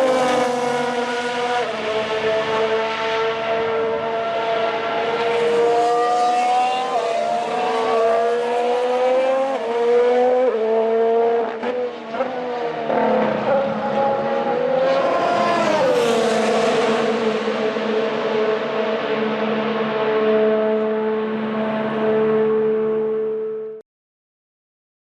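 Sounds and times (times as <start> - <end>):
racing car engine accelerating: 0.0 - 23.6.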